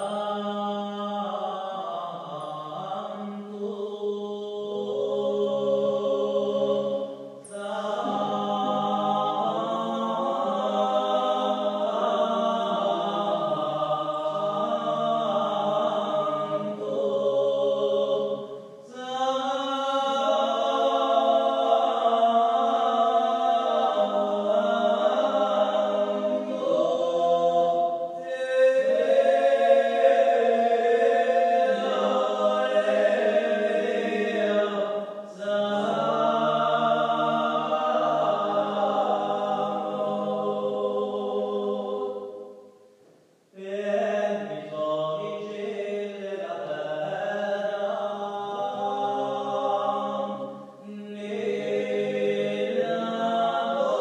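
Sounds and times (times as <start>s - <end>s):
choir chanting held chords: 0.0s - 43.0s, 43.6s - 54.0s.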